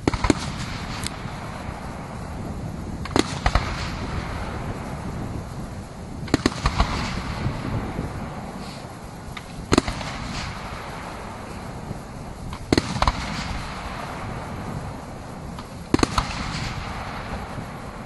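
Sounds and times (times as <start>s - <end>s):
fireworks bursting with sharp bangs: 0.0s - 18.0s
steady low rumble: 0.0s - 18.0s.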